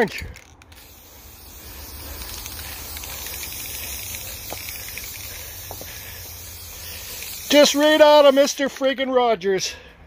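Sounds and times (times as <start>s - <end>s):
spray-paint can hissing: 0.5s - 8.8s.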